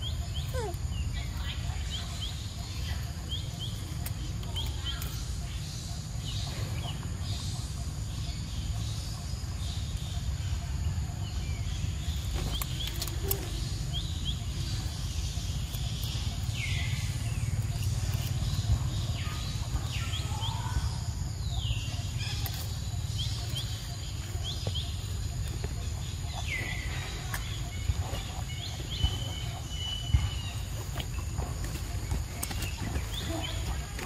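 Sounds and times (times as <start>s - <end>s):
high chirping calls: 0.0s - 34.0s.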